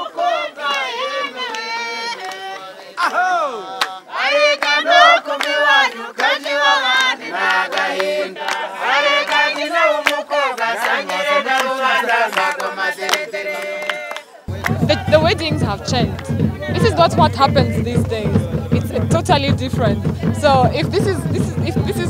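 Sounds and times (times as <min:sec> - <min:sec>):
group singing a chant: 0:00.0 - 0:22.0
hand-clapping: 0:00.6 - 0:03.1, 0:03.8 - 0:22.0.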